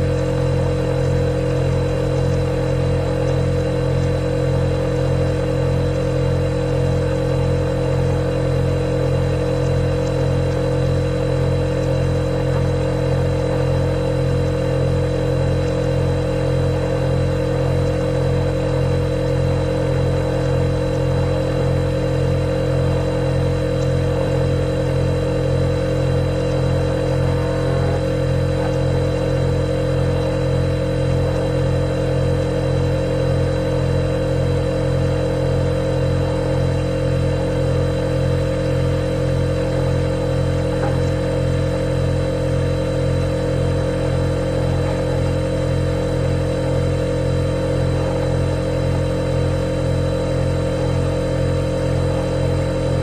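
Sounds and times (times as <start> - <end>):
refrigerator humming: 0.0 - 53.0.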